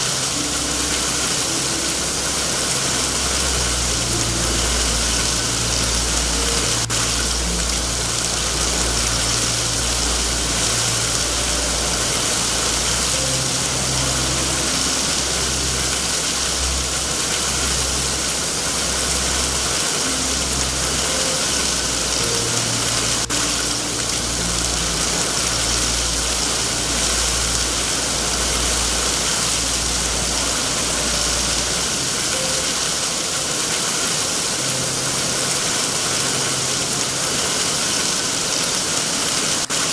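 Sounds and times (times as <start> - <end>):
low uneven rumble: 0.0 - 38.9
heavy rain hissing: 0.0 - 39.9.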